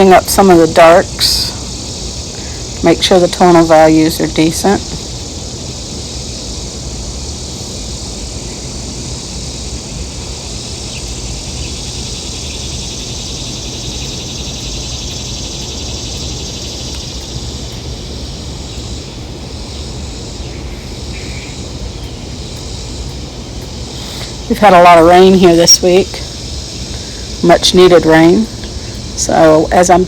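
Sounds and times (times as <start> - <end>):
high-pitched hiss: 0.0 - 30.0.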